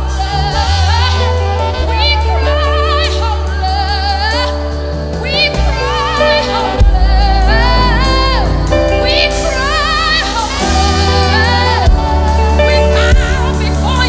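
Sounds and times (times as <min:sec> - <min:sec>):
gospel music with bass and chords: 0:00.0 - 0:14.0
person singing with vibrato: 0:00.0 - 0:14.0.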